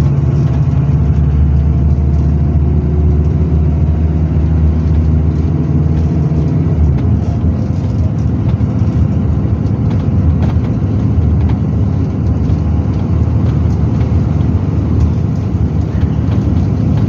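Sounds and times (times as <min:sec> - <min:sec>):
bus engine and road rumble: 0:00.0 - 0:17.0
light rattles: 0:03.2 - 0:17.0.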